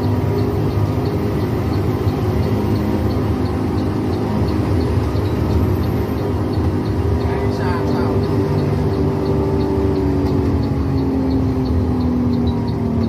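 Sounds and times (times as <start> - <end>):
bus engine droning: 0.0 - 13.0
turn signal ticking: 0.0 - 13.0.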